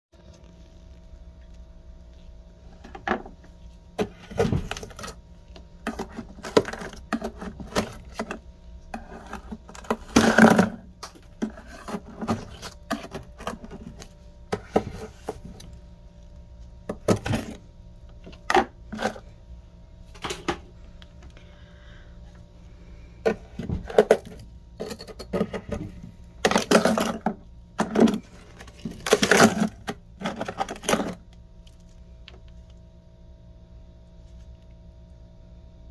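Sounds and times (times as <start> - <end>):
steady low hum: 0.2 - 35.9.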